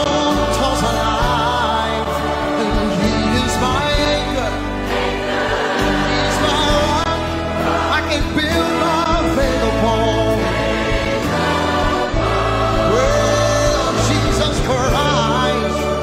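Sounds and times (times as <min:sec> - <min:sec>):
choir singing gospel: 0:00.0 - 0:16.0
orchestra with trumpets: 0:00.0 - 0:16.0.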